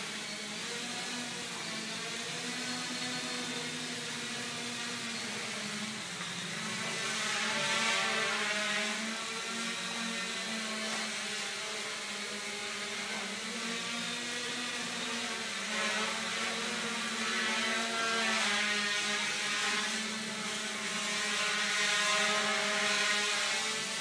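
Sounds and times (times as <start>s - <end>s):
quadcopter motors whirring: 0.0s - 24.0s.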